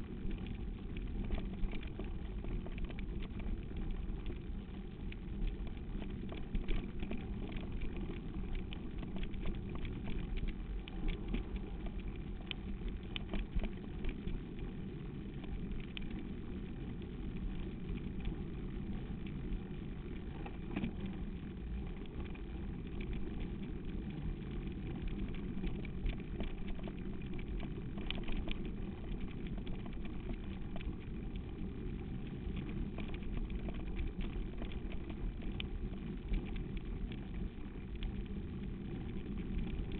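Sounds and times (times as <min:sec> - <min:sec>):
bike and camera rattling: 0:00.0 - 0:39.9
bike tyres rolling on dirt: 0:00.0 - 0:39.9.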